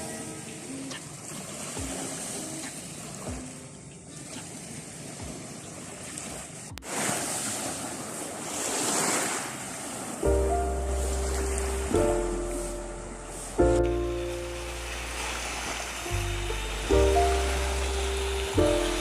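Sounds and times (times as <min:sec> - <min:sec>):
sea waves washing onto shore: 0:00.0 - 0:19.0
soft background music: 0:00.0 - 0:19.0.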